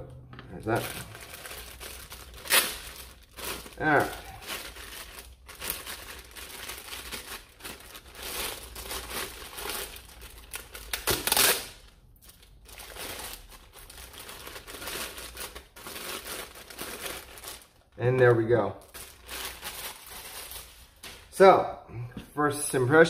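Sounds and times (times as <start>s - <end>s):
plastic bag crinkling: 0.5s - 21.3s.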